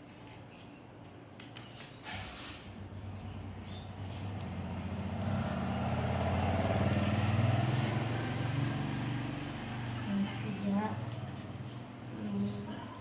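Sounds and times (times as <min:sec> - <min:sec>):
vehicle engine passing by: 0:02.1 - 0:12.5.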